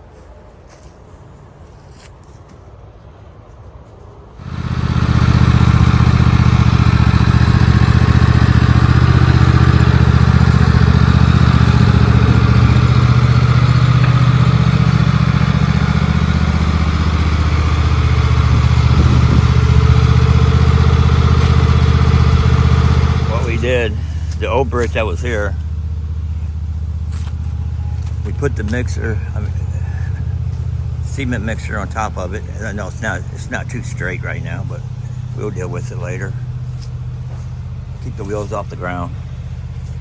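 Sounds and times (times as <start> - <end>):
cement mixer engine running: 4.4 - 40.0.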